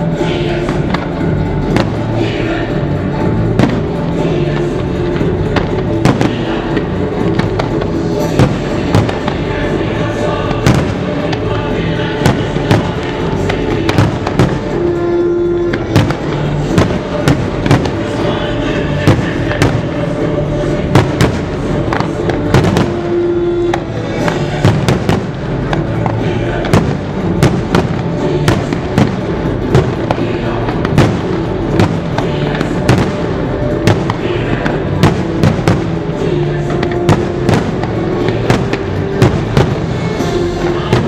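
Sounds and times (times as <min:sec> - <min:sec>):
fireworks bursting with bangs: 0:00.0 - 0:41.0
loud music: 0:00.0 - 0:41.0.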